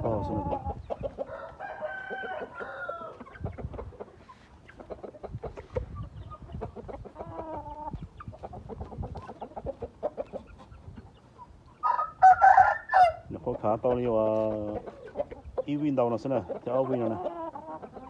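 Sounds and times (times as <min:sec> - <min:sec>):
roosters calling: 0:00.0 - 0:18.0.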